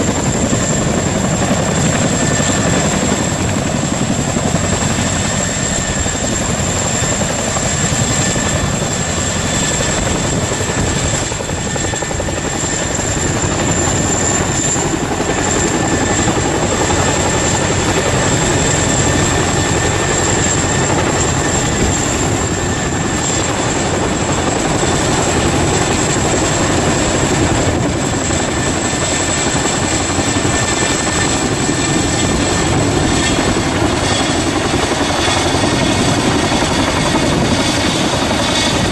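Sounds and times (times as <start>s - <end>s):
helicopter rotors beating: 0.0s - 38.9s.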